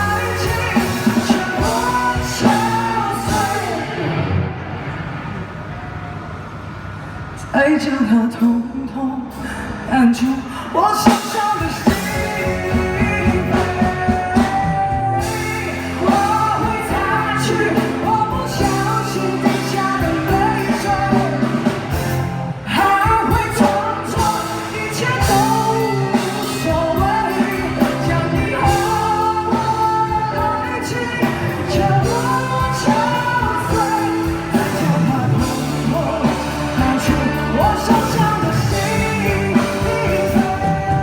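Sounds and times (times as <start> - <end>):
woman singing pop-rock ballad: 0.0 - 4.3, 7.8 - 41.0.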